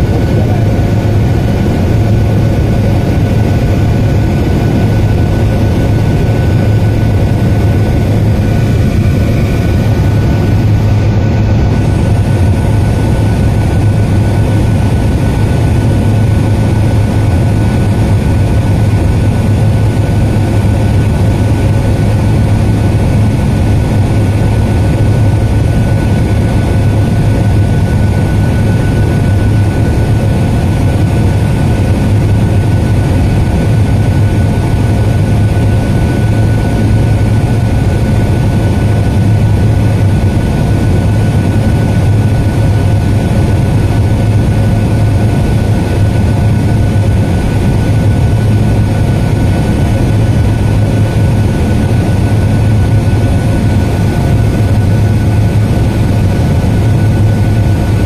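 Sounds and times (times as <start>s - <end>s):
airliner cabin engine drone: 0.0s - 58.0s
thin steady whine: 0.0s - 58.0s.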